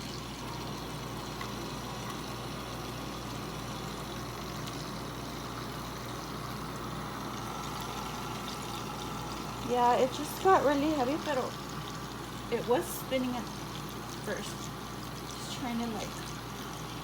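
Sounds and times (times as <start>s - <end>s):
toy washing machine motor running: 0.0s - 17.0s.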